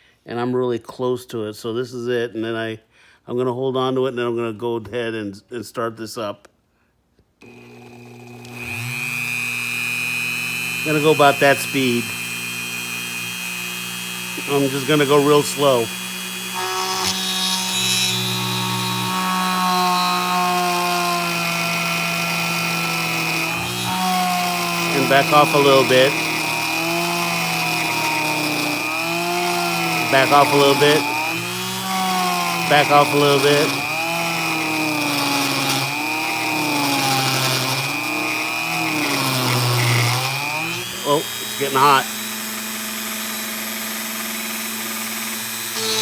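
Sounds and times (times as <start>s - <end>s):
rotary tool drilling: 7.4s - 46.0s.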